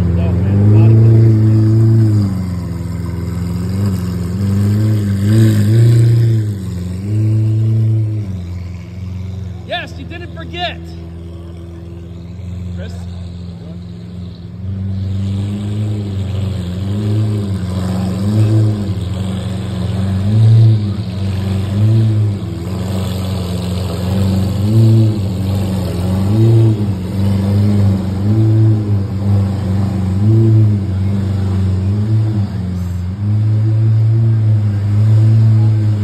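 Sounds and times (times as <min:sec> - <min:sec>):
car engine idling with throttle blips: 0:00.0 - 0:36.0.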